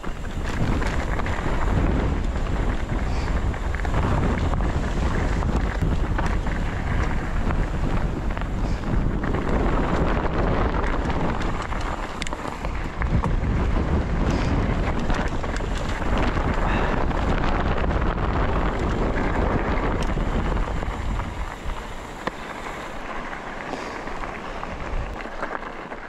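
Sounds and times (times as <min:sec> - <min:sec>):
bike clicks and rattles: 0:00.0 - 0:26.0
bike tyres on rocky dirt: 0:00.0 - 0:26.0
wind buffeting microphone: 0:00.0 - 0:26.0.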